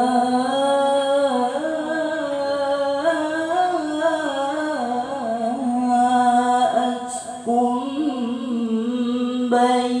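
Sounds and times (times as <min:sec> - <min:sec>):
boy chanting into a microphone: 0:00.0 - 0:10.0.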